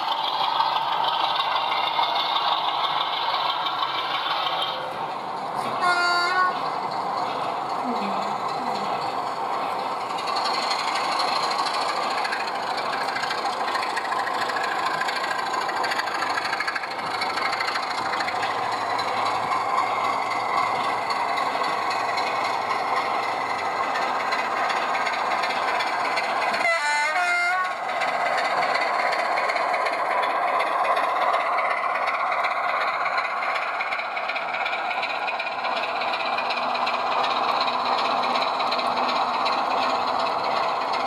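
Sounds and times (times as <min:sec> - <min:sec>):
model train running on track: 0:00.0 - 0:41.0.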